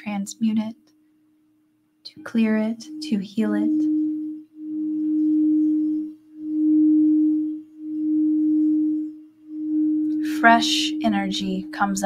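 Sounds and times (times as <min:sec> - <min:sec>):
singing bowl tone: 0:02.2 - 0:12.0.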